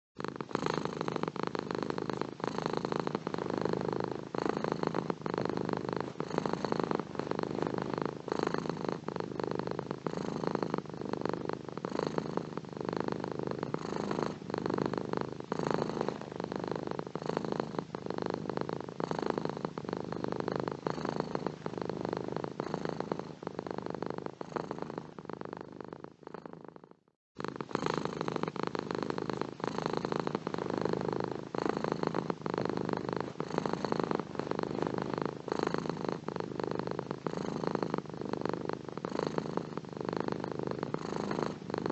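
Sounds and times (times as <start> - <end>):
cat purring: 0.1 - 41.9.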